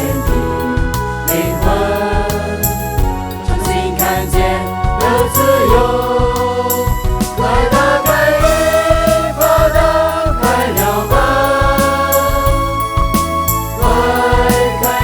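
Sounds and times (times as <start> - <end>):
steady drum beat: 0.0 - 15.0
worship music with choir: 0.0 - 15.0.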